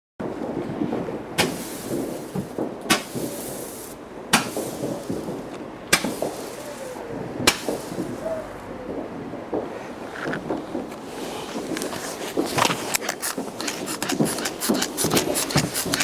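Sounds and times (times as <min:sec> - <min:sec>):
fireworks bangs: 0:00.2 - 0:16.0
steady background noise: 0:00.2 - 0:16.0.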